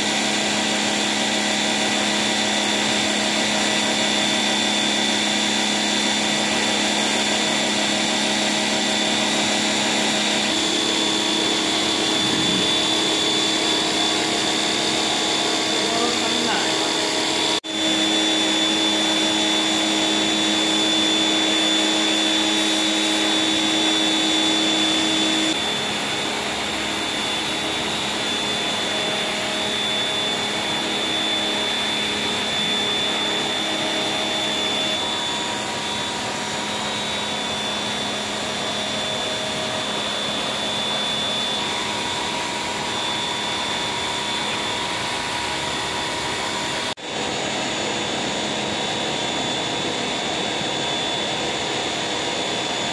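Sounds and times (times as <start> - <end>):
motor hum and whine: 0.0 - 52.9.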